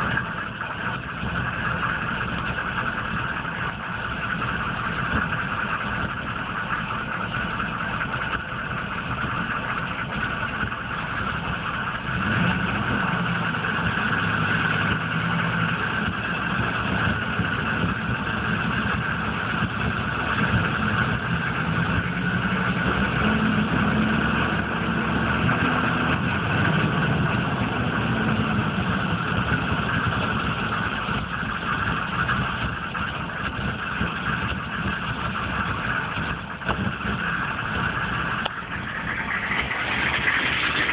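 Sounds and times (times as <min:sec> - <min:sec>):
diesel engine idling roughly: 0:00.0 - 0:40.9.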